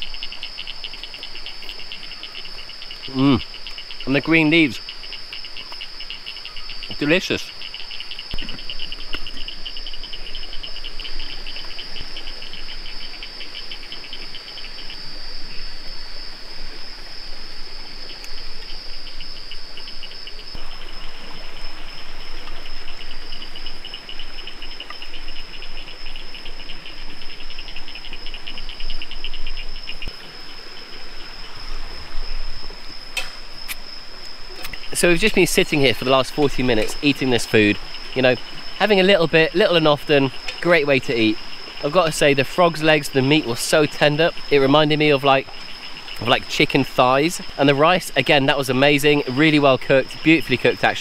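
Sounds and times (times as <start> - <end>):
insects fast pulsing trill: 0.0 - 51.0
insects high-pitched whine: 0.0 - 51.0.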